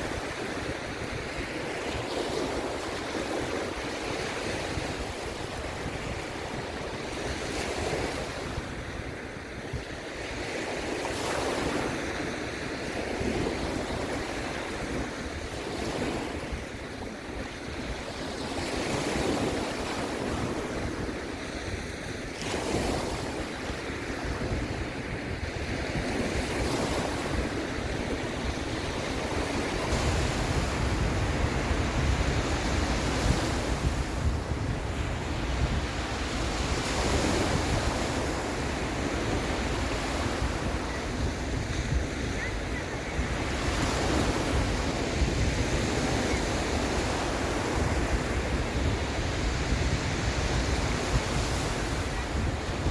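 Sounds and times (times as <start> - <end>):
sea waves breaking: 0.0 - 52.9
wind rumble on microphone: 0.0 - 52.9.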